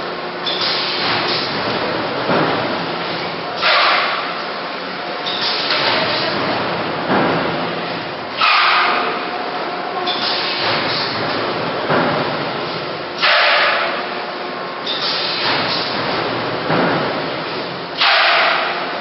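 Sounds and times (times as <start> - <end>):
foam forming machine hissing: 0.4 - 4.4, 5.2 - 9.3, 10.0 - 14.0, 14.8 - 19.0.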